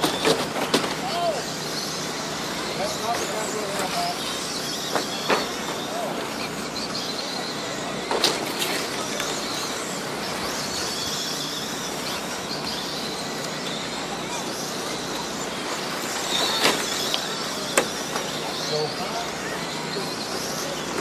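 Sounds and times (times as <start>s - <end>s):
toy race car motors whining: 0.0s - 21.0s.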